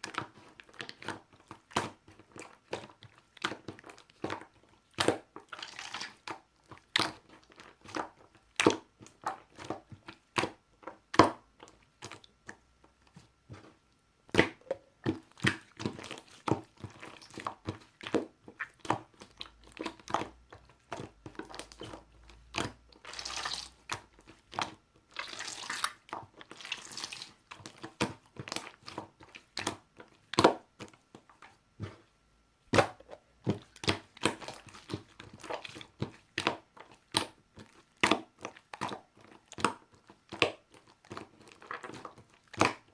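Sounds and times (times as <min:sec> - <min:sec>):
slime squishing with clicks and pops: 0:00.0 - 0:12.7, 0:14.2 - 0:32.0, 0:32.7 - 0:42.9.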